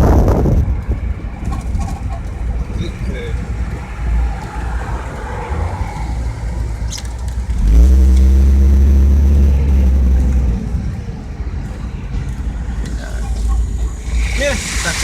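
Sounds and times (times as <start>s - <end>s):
low rumble: 0.0s - 15.0s
vehicle engine revving: 0.0s - 15.0s.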